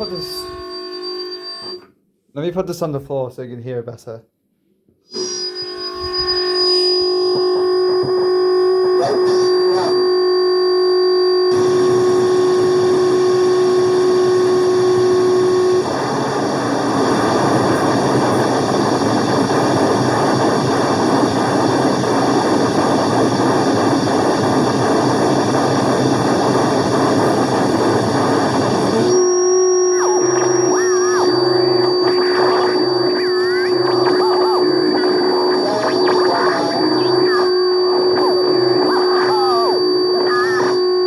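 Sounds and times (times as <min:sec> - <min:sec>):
pitched electronic drone: 0:00.0 - 0:01.8, 0:05.1 - 0:41.0
distorted noise wall: 0:00.0 - 0:01.9, 0:05.0 - 0:41.0.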